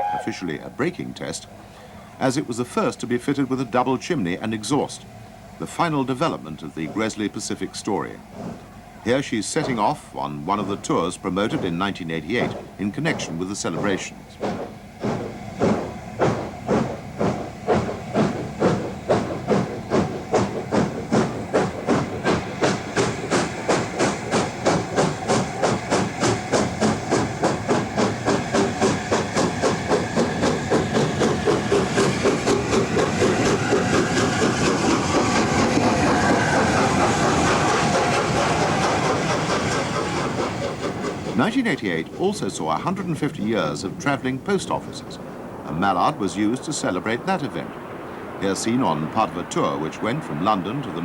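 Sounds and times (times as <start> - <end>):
steam locomotive exhaust beats: 0.0 - 51.0.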